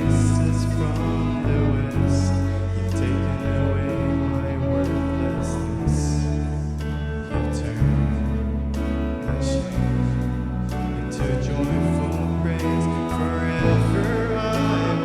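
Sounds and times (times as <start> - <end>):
slow instrumental worship music: 0.0 - 15.0.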